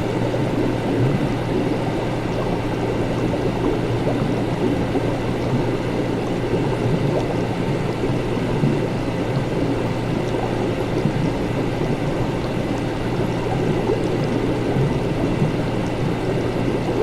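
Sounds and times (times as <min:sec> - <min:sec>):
liquid gurgling: 0:00.0 - 0:17.0
low machine hum: 0:00.0 - 0:17.0.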